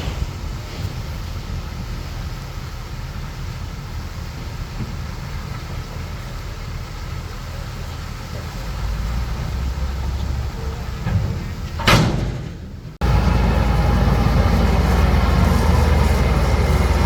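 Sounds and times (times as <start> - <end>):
heavy diesel engine running: 0.0 - 11.9, 12.8 - 17.0.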